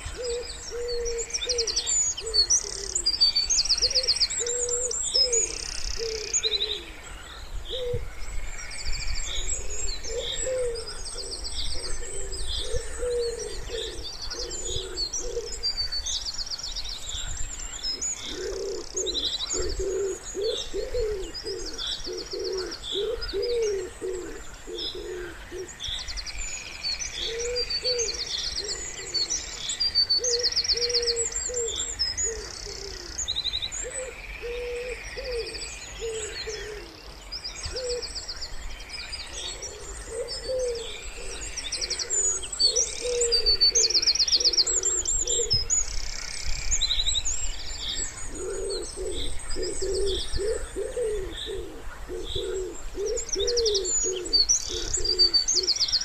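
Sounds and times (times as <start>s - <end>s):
wood pigeons cooing: 0.0s - 8.2s, 9.3s - 16.0s, 17.7s - 25.8s, 27.1s - 38.2s, 39.2s - 46.3s, 47.9s - 55.9s
songbirds chirping and trilling: 0.0s - 56.0s.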